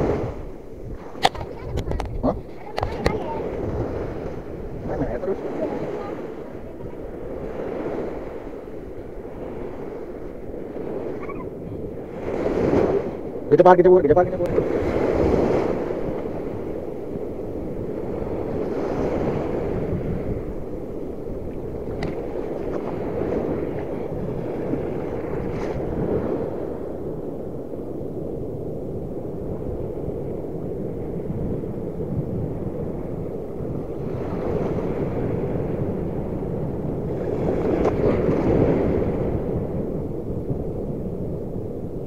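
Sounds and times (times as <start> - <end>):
surf washing in shallows: 0.0 - 42.0
wind buffeting microphone: 0.0 - 42.0.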